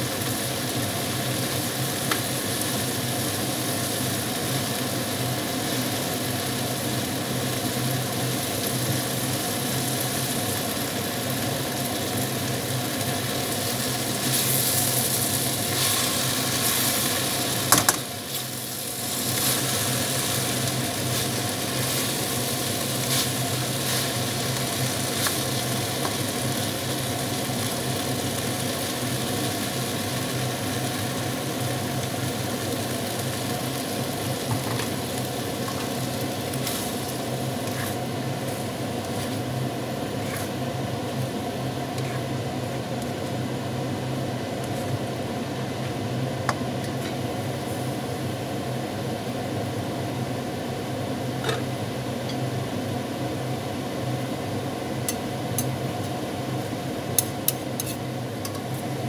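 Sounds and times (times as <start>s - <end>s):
stir-fry sizzling in a wok: 0.0s - 59.0s.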